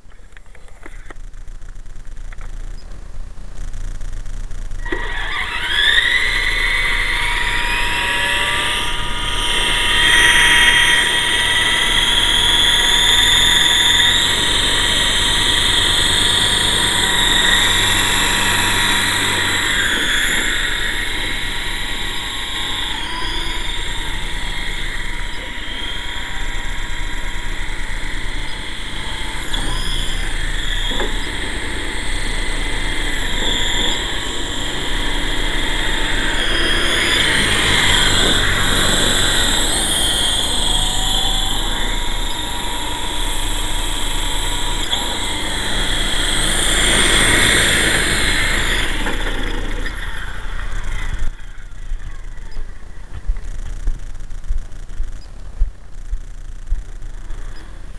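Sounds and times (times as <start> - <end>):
rc helicopter motor whine: 3.6 - 57.9.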